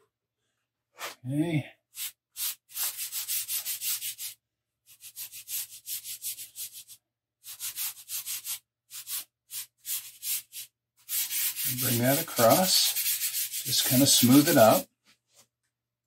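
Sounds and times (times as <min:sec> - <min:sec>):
fingers rubbing chalk on paper: 0:01.9 - 0:14.9.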